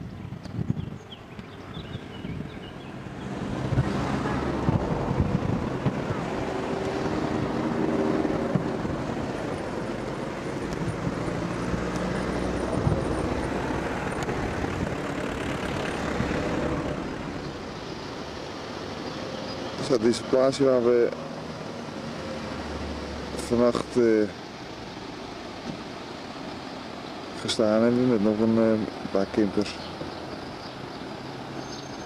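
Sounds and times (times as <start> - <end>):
engine-like drone: 1.4 - 32.0.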